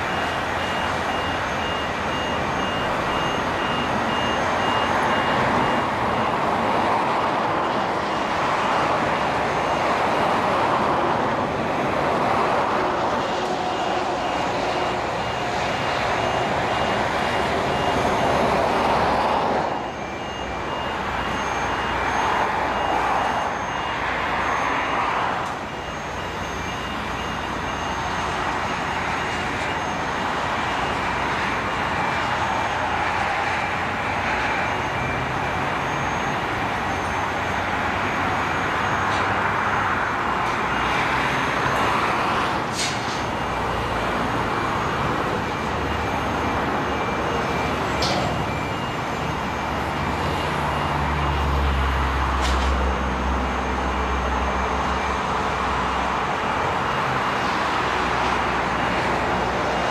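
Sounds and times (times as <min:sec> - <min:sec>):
electronic warning beeper: 0:00.0 - 0:59.9
heavy machinery running: 0:00.0 - 0:59.9.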